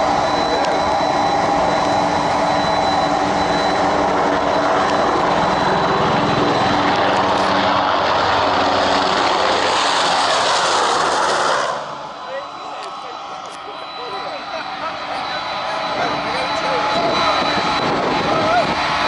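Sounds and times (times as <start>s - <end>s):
helicopter flying by: 0.0s - 19.0s.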